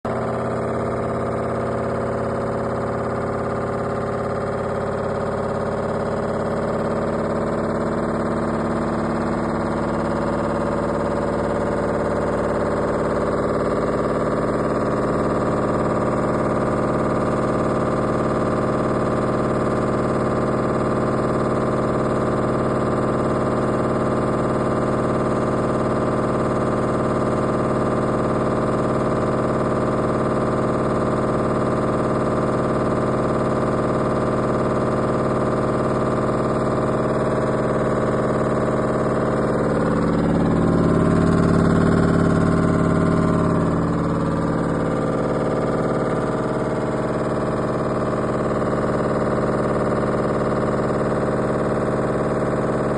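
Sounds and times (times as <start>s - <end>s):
washing machine spin cycle: 0.1s - 52.9s.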